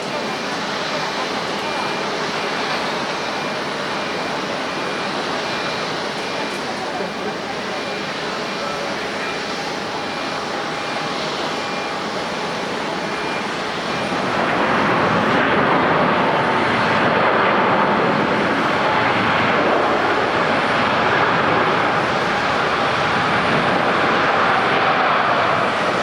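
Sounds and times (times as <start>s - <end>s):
jet airliner engines running: 0.0s - 26.0s.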